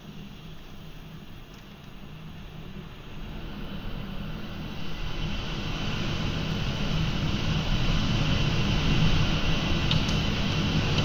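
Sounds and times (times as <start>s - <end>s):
wind rushing through treetops: 0.0s - 11.0s.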